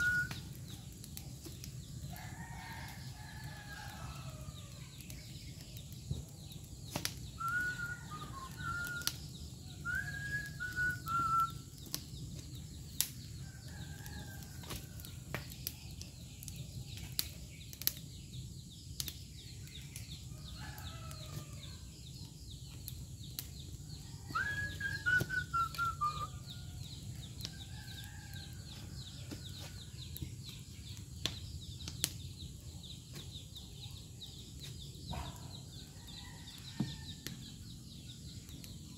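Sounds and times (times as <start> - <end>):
burning branches crackling: 0.0 - 38.9.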